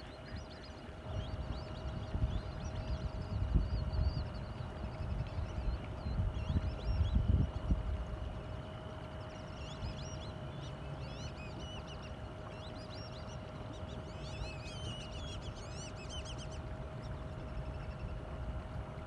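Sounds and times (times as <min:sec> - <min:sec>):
birds chirping: 0:00.0 - 0:18.7
boat engine hum: 0:00.0 - 0:19.0
faint whine: 0:00.0 - 0:19.0.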